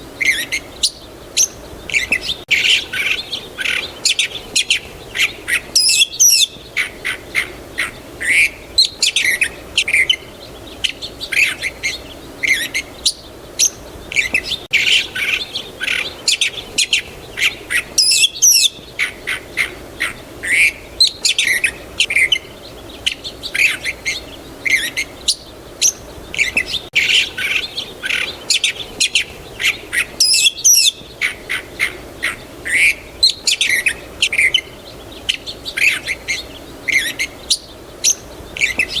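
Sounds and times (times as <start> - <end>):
faint background noise: 0.0 - 39.0
small birds chirping: 0.0 - 39.0.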